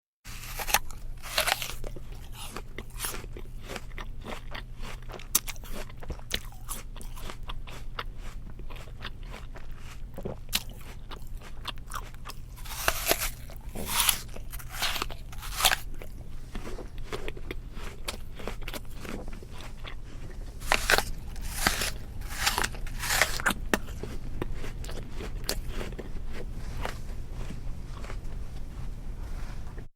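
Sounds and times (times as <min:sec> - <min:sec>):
biting and chewing crunches: 0:00.3 - 0:29.0.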